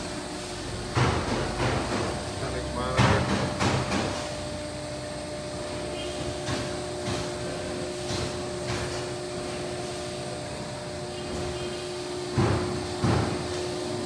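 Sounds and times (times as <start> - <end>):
hydraulic power unit humming: 0.0 - 14.0.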